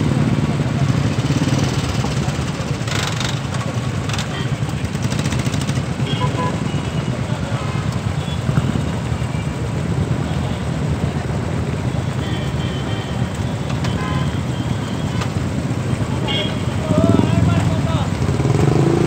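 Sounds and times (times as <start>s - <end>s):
motorcycles idling: 0.0s - 19.0s.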